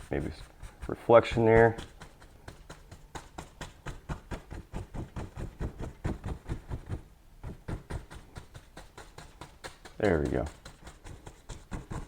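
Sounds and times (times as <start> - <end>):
paint brush tapping on canvas: 0.9 - 12.0.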